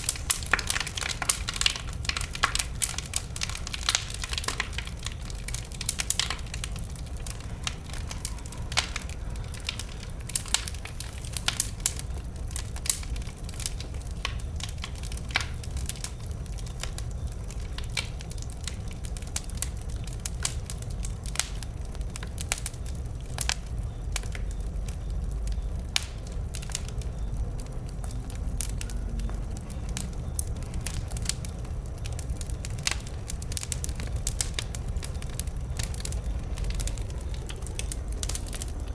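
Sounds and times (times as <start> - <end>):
bonfire crackling and popping: 0.0 - 38.9
low fire rumble: 0.0 - 38.9.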